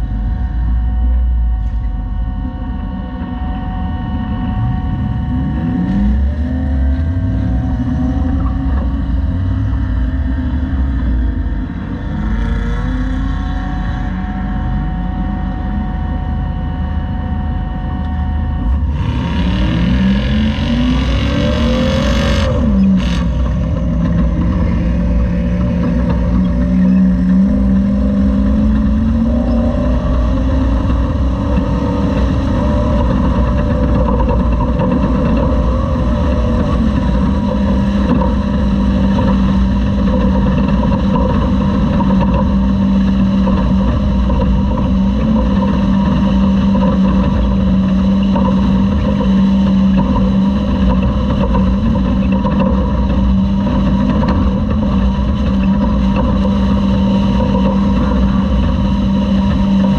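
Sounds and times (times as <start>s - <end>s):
low rumble of truck: 0.0s - 59.9s
truck engine droning: 0.0s - 59.9s.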